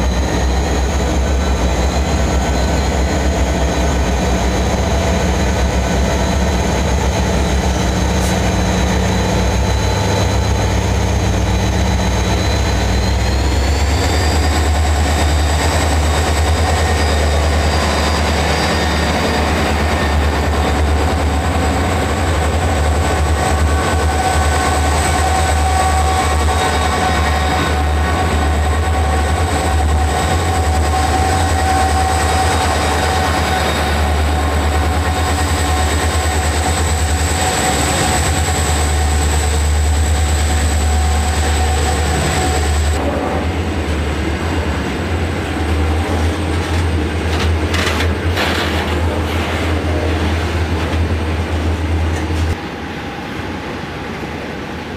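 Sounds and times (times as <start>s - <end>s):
locomotive engine rumbling: 0.0s - 54.5s.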